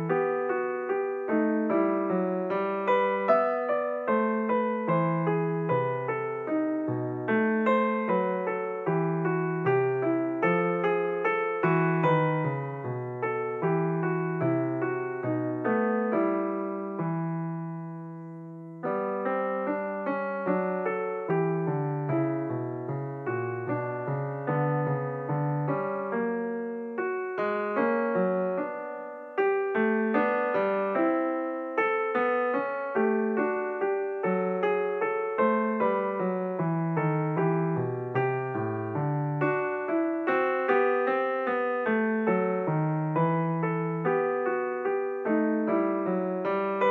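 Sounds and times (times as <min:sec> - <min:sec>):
piano music: 0:00.0 - 0:46.9.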